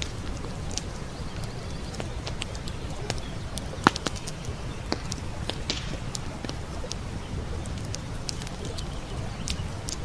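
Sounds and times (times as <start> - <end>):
brook flowing: 0.0 - 10.0
campfire crackling and popping: 0.0 - 10.0.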